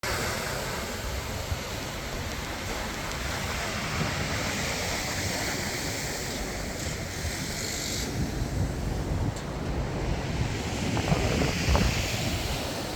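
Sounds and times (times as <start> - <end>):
sea waves washing on shore: 0.0 - 12.9.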